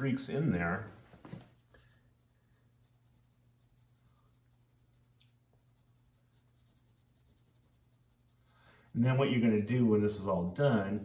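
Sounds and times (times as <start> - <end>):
low steady hum: 0.0 - 11.0
crayon scratching on paper: 2.2 - 11.0.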